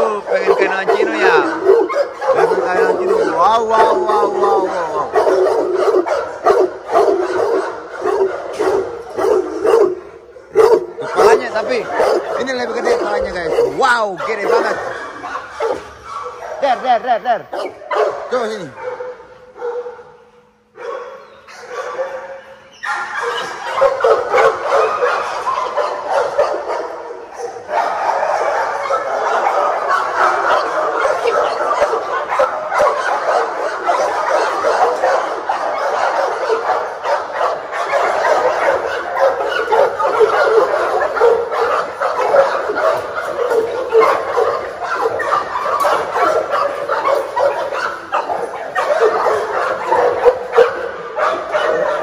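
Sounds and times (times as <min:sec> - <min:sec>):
dogs barking and yipping: 0:00.0 - 0:52.0.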